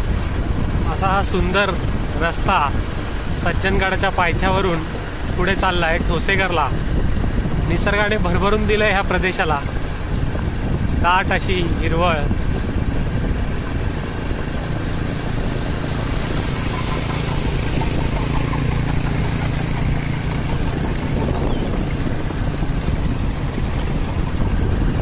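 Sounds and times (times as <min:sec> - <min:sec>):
road and wind noise: 0:00.0 - 0:25.0
vehicle engine humming: 0:00.0 - 0:25.0.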